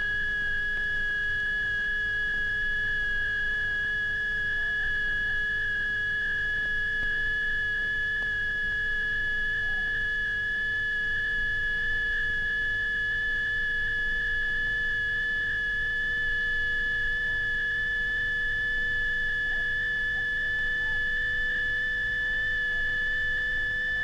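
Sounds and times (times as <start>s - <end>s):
high-pitched sine-wave tone: 0.0s - 24.0s.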